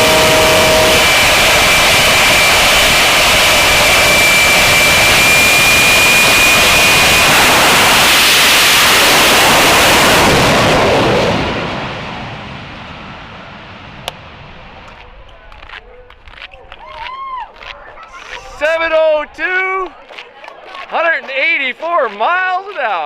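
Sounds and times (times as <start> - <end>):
high turbine whine: 0.0 - 19.9
jet engine roar: 0.0 - 20.0.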